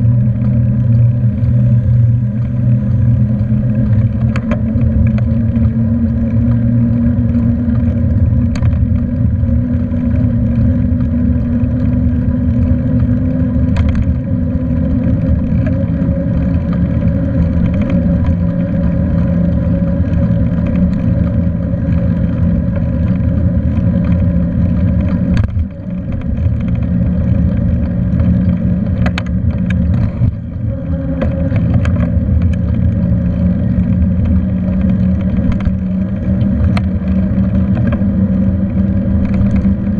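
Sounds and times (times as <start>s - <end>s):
faint hum: 0.0s - 39.9s
wind and rolling noise drone: 0.0s - 39.9s.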